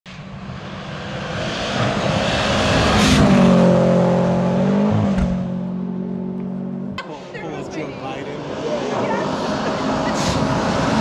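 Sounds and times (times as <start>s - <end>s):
rally car engine passing by: 0.4s - 11.0s.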